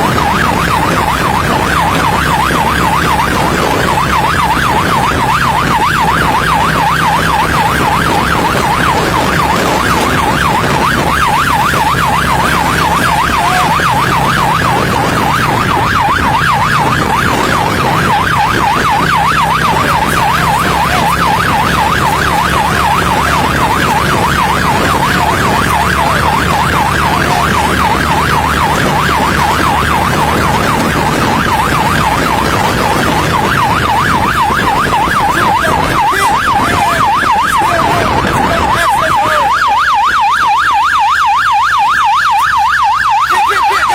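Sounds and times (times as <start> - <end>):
engine humming: 0.0 - 43.9
police siren yelping: 0.0 - 43.9.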